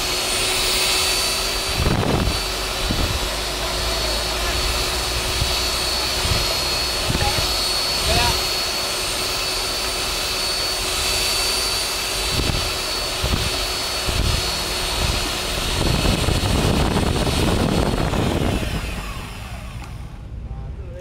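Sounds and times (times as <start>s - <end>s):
electric paddle mixer whining: 0.0s - 20.3s.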